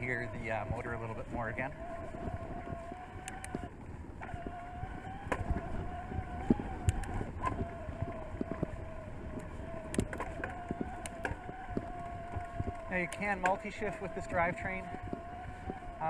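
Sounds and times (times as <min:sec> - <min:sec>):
electric bike motor whining: 0:00.0 - 0:16.0.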